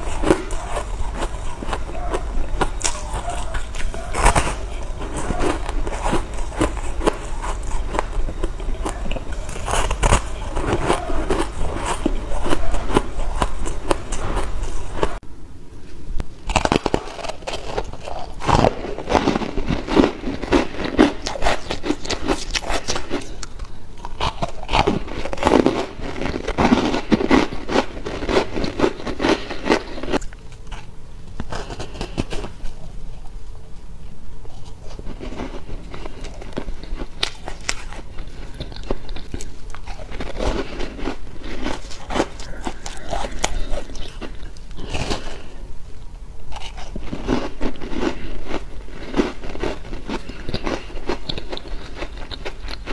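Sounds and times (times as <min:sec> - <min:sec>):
chewing crunchy ice: 0:00.0 - 0:15.2, 0:16.4 - 0:32.8, 0:34.5 - 0:45.6, 0:46.5 - 0:52.9.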